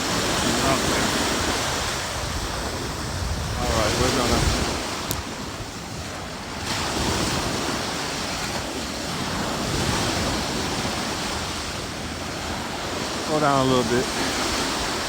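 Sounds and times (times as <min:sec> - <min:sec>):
ocean surf on a beach: 0:00.0 - 0:15.0
wind buffeting microphone: 0:00.0 - 0:15.0.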